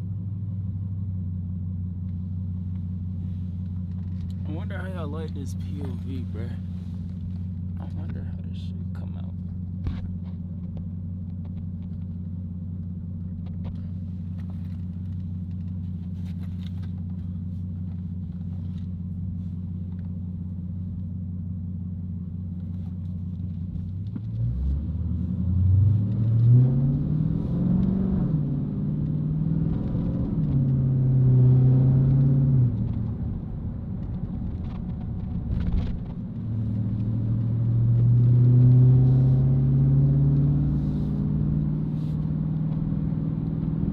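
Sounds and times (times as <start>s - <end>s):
car engine accelerating: 1.5s - 43.9s.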